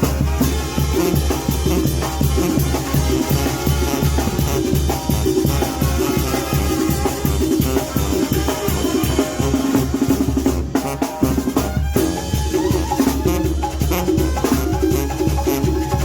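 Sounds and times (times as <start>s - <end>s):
bass drum and snare beat: 0.0s - 16.0s
live band music: 0.0s - 16.0s.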